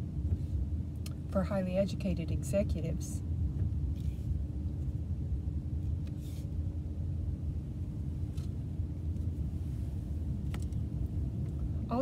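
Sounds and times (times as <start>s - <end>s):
faint constant hum: 0.0s - 12.0s
road and engine rumble in car: 0.0s - 12.0s.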